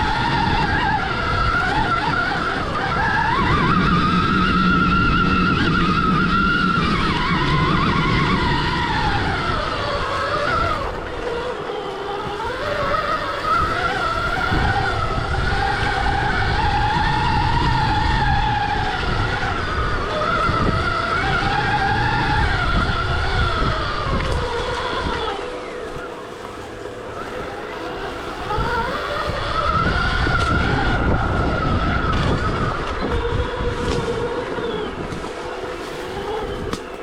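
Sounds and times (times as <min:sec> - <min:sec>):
electric motor whining: 0:00.0 - 0:37.0.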